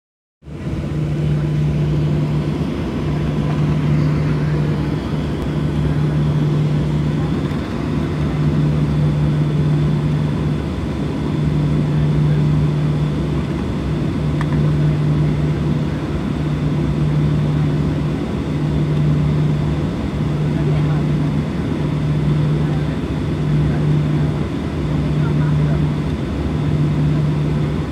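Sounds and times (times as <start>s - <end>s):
aircraft cabin drone: 0.4s - 27.9s
low hum breaking off: 0.5s - 27.9s.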